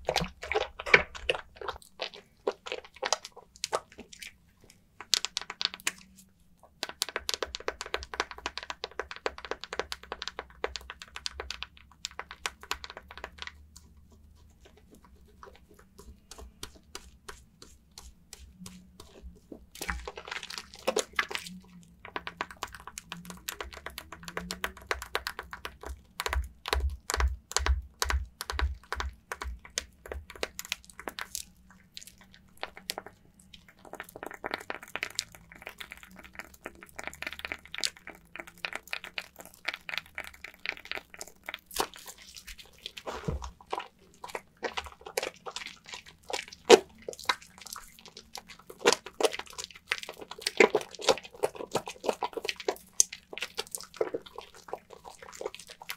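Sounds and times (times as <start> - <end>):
wet soap lather squelching: 0.0 - 55.9.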